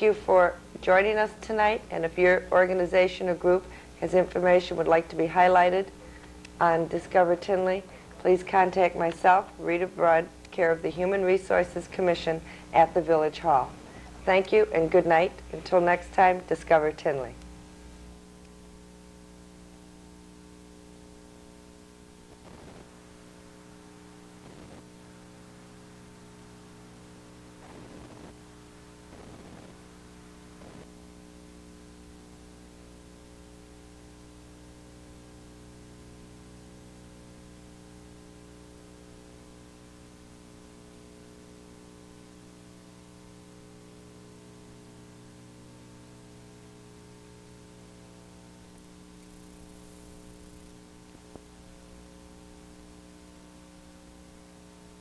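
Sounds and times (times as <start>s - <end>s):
electrical mains hum: 0.0s - 55.0s
faint tape hiss: 0.0s - 55.0s.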